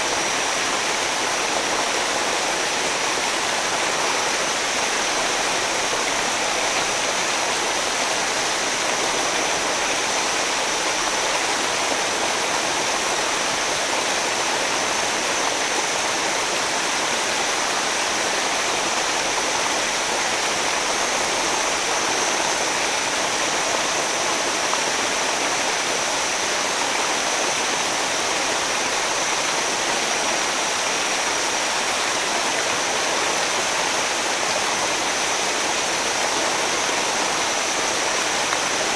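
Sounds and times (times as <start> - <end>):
waterfall and rapids rushing: 0.0 - 38.9.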